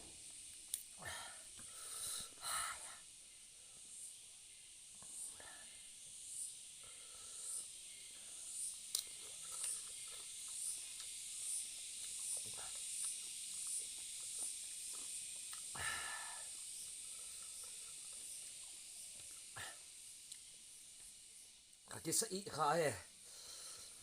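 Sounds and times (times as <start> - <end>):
high insect chirp: 0.0 - 24.0
steady hiss: 0.0 - 24.0.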